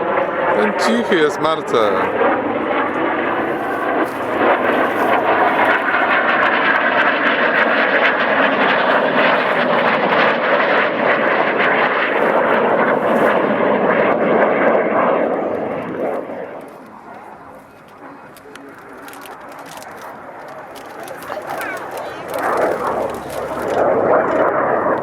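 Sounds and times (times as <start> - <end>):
airplane engine flying past: 0.0 - 25.0.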